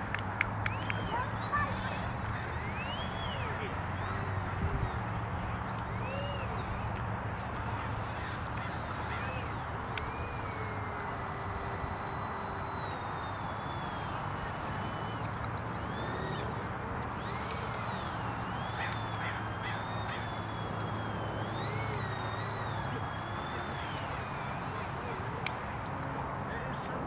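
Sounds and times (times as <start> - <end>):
electric ducted fan whining: 0.0 - 27.0.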